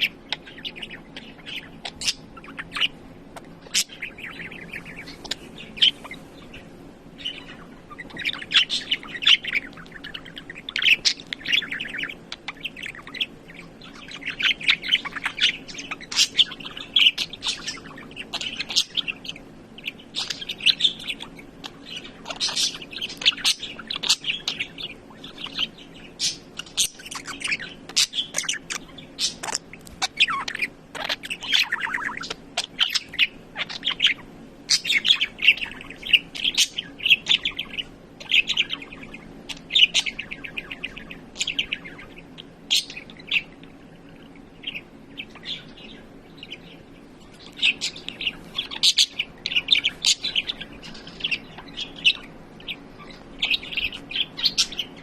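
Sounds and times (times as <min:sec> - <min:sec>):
budgerigar warbling and chattering: 0:00.0 - 0:55.0.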